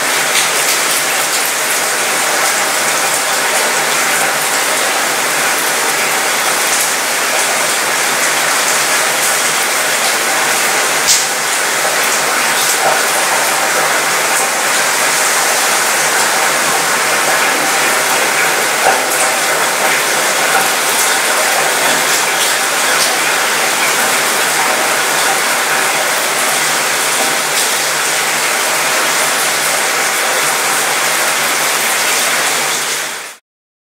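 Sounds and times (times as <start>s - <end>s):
rain hiss: 0.0s - 33.3s
rain drops ticking on metal: 0.0s - 33.4s.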